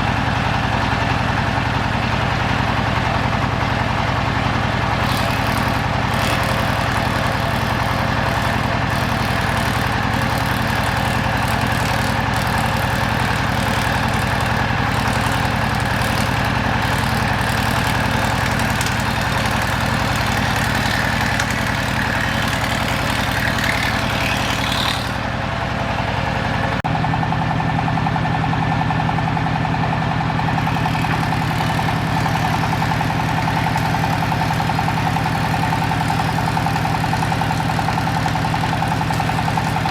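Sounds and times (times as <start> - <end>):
woodworking machinery humming: 0.0 - 26.8, 30.0 - 39.9.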